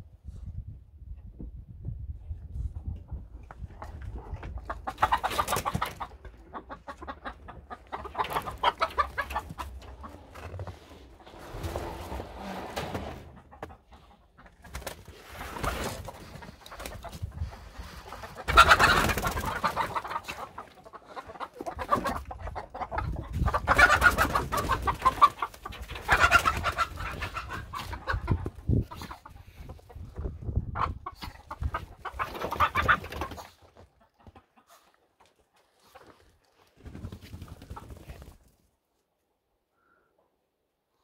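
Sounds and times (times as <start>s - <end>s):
chickens clucking: 2.8s - 38.4s.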